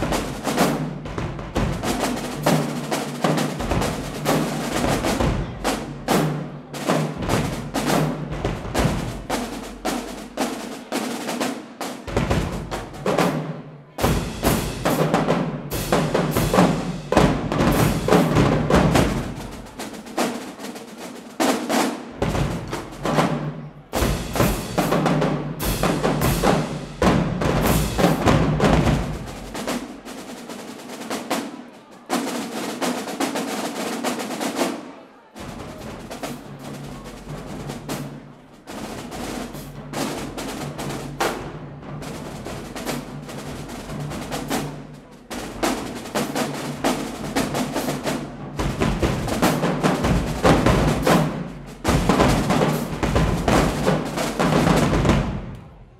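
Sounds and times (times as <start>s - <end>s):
marching drumline playing: 0.0s - 55.9s.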